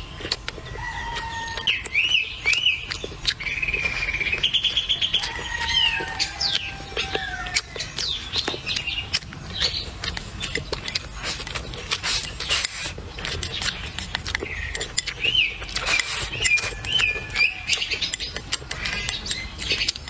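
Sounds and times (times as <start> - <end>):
bird chirping: 0.0 - 20.0
person eating with chopsticks: 0.2 - 20.0.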